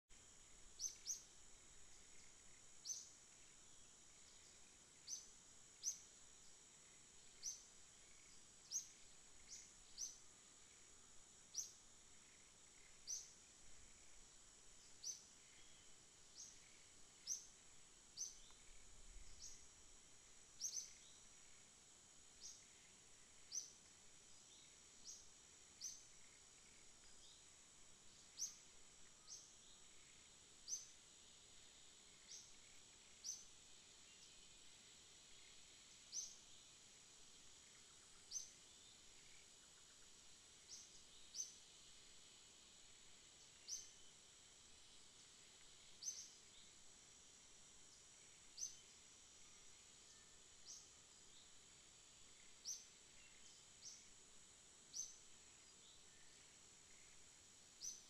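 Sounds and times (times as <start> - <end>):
faint high-pitched whine: 0.0 - 58.0
small bird chirping: 0.2 - 21.7, 22.3 - 31.0, 32.1 - 34.5, 35.4 - 36.6, 37.4 - 42.0, 43.3 - 44.2, 45.2 - 46.8, 47.8 - 51.6, 52.2 - 54.2, 54.8 - 58.0.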